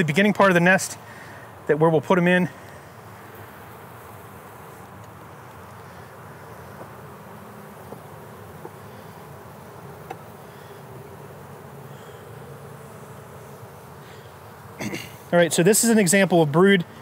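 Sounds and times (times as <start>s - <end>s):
bees humming: 0.0s - 17.0s.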